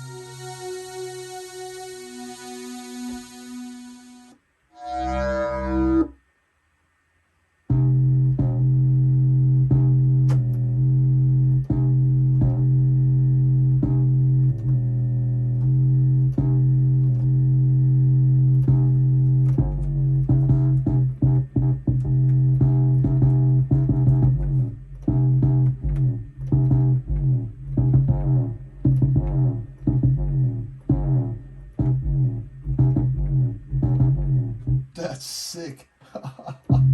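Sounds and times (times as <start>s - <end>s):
buzzy synthesizer bass notes: 0.0s - 6.1s, 7.7s - 35.6s, 36.6s - 36.9s.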